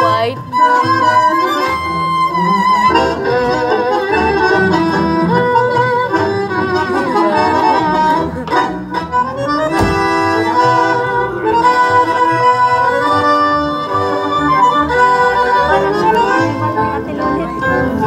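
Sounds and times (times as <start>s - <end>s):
tango music with bandoneon: 0.0s - 18.0s.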